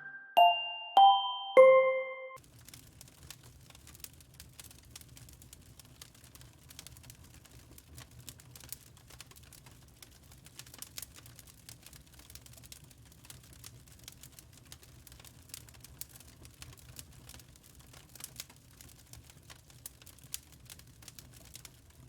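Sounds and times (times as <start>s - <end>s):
wood fire crackling: 2.4s - 22.0s.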